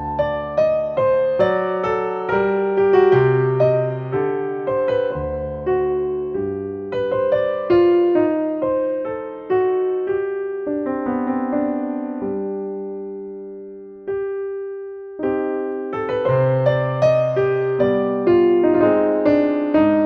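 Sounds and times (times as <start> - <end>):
slow piano chords and melody: 0.0 - 20.0.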